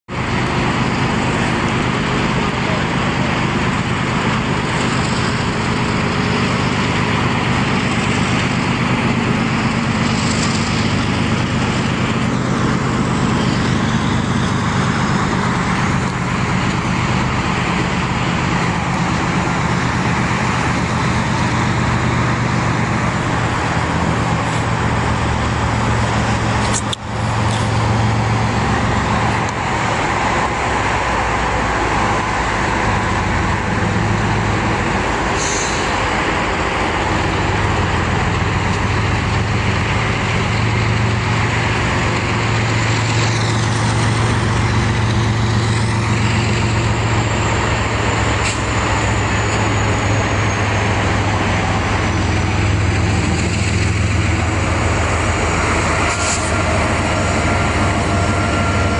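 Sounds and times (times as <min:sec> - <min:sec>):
heavy highway traffic: 0:00.0 - 0:58.9
diesel locomotives droning: 0:00.1 - 0:58.9.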